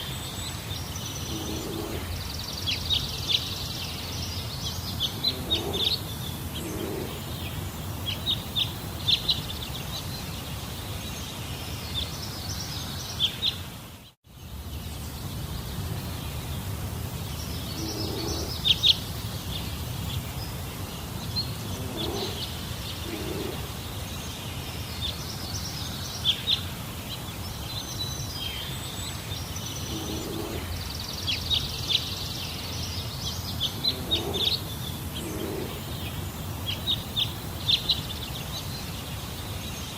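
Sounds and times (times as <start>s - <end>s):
birds chirping: 0.0s - 39.9s
low background noise: 0.0s - 39.9s.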